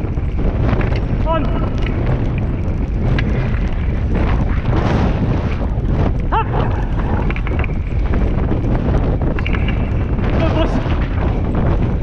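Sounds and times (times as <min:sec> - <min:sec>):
wheels rolling on gravel: 0:00.0 - 0:12.0
wind buffeting microphone: 0:00.0 - 0:12.0.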